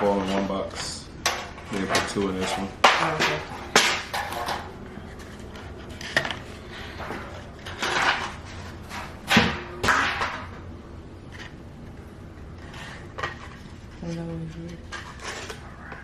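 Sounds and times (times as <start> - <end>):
food containers clicking and scraping: 0.0 - 9.5, 11.2 - 16.0.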